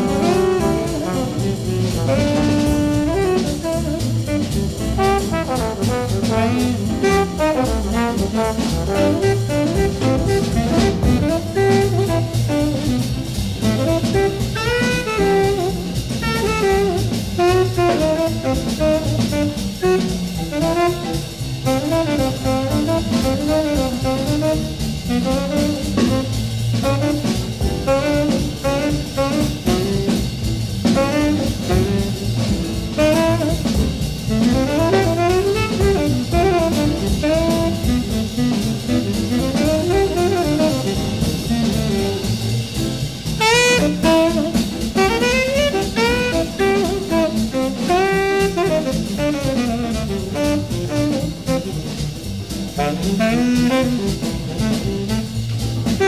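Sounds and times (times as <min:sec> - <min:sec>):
horn playing melodic lines: 0:00.0 - 0:30.2, 0:30.8 - 0:42.7, 0:43.4 - 0:56.0
bass: 0:00.0 - 0:56.0
drum kit: 0:00.0 - 0:56.0.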